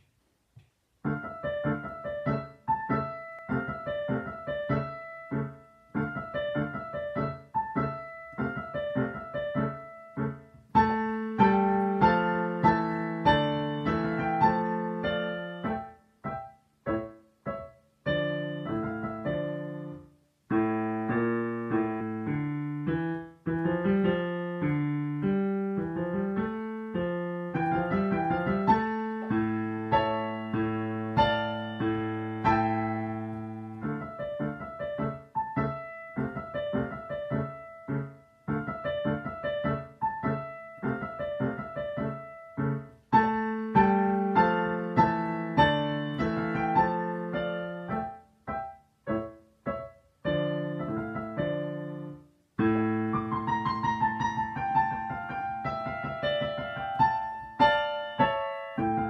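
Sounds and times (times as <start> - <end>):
digital piano playing: 1.0 - 59.0.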